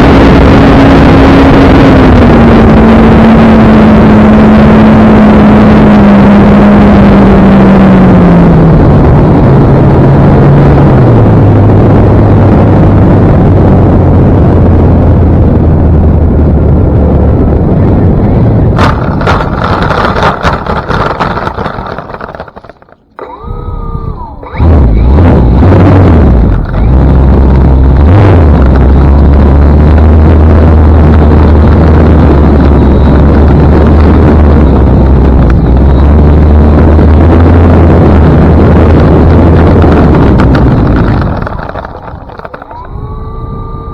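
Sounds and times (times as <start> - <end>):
wind rush: 0.0 - 22.9, 23.8 - 43.9
model airplane motor and propeller: 0.0 - 43.9.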